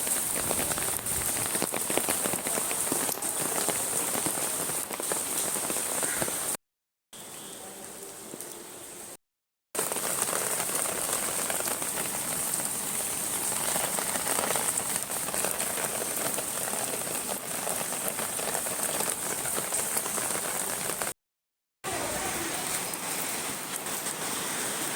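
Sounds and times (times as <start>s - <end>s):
rain falling: 0.0s - 6.6s, 7.2s - 9.2s, 9.8s - 21.2s, 21.8s - 24.9s.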